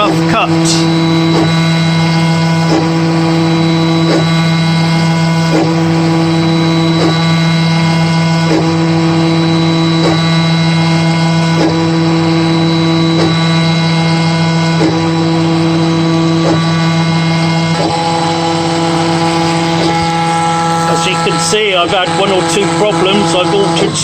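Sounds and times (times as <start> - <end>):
cnc router cutting wood: 0.0 - 24.0
short pitch sweep: 0.0 - 24.0.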